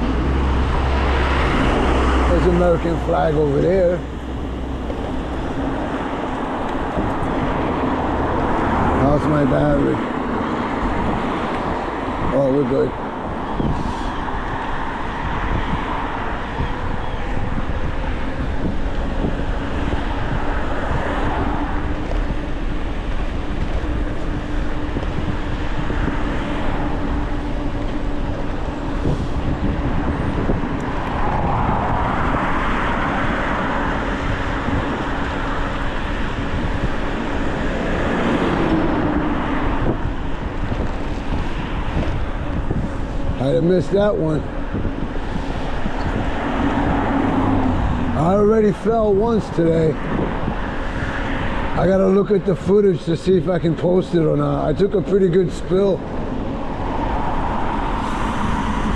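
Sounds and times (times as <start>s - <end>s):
cars passing by: 0.0s - 58.9s
wind rushing over microphone: 0.0s - 58.9s.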